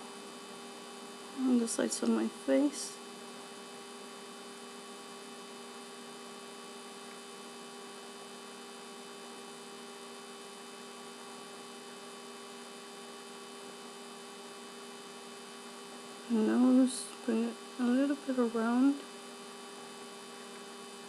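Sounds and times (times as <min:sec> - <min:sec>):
constant hiss: 0:00.0 - 0:21.0
electrical hum: 0:00.0 - 0:21.0.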